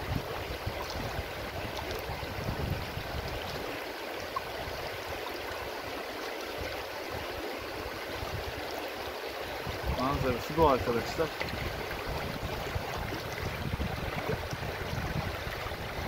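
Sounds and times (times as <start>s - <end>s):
river rushing over pebbles: 0.0s - 16.0s.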